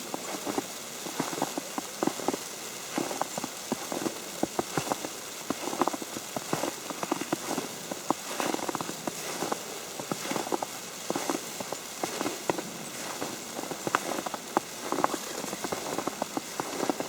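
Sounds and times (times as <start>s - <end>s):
snow tapping on umbrella: 0.0s - 17.0s
soft hiss: 0.0s - 17.0s.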